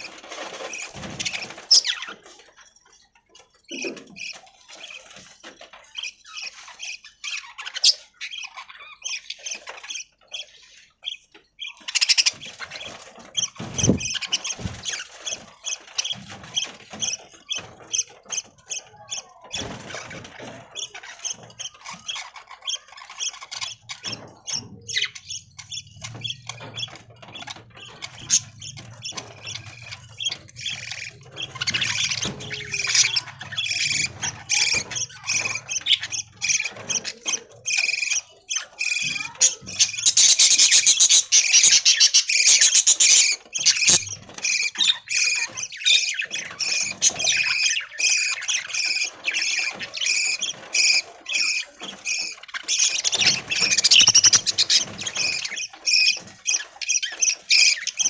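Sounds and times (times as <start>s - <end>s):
budgies chirping and squawking: 0.0s - 58.0s.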